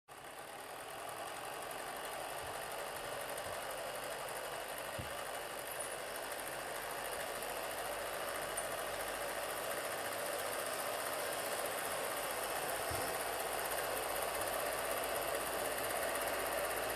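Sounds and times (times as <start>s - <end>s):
film projector whirring: 0.1s - 16.9s.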